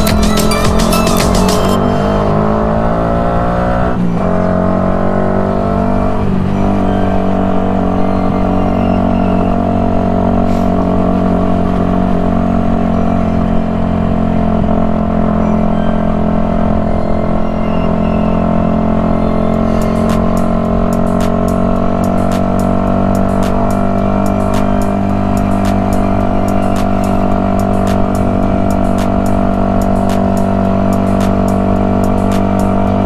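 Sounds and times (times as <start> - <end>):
motorcycle engine shifting gears: 0.0 - 33.0.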